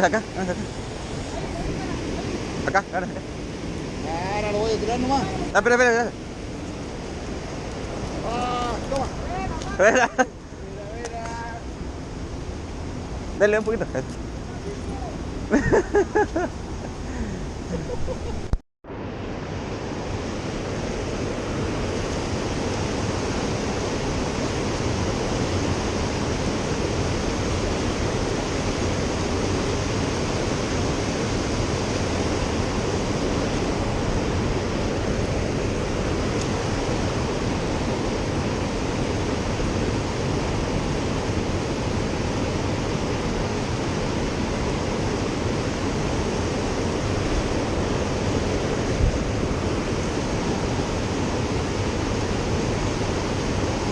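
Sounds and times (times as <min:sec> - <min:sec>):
fast-flowing river rushing: 0:00.0 - 0:15.8, 0:16.5 - 0:53.9.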